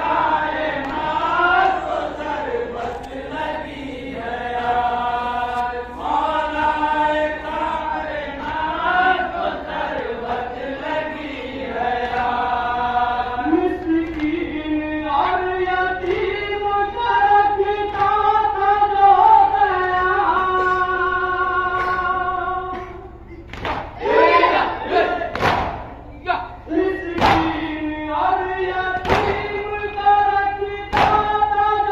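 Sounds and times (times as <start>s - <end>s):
men chanting a lament: 0.0s - 31.9s.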